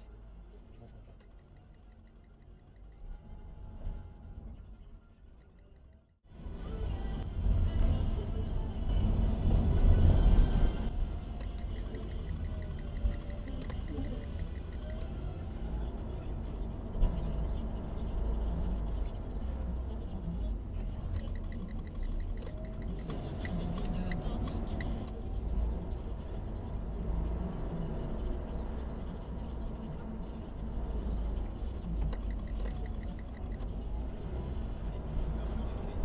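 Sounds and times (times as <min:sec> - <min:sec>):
car engine and tyres rumbling: 0:00.0 - 0:36.0.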